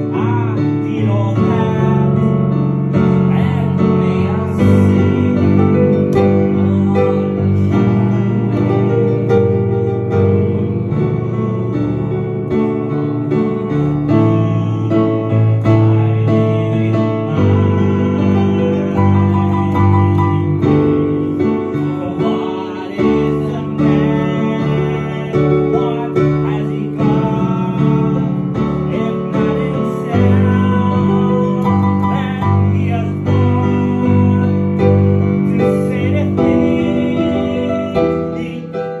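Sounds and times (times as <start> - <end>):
slow piano chords: 0.0 - 39.0.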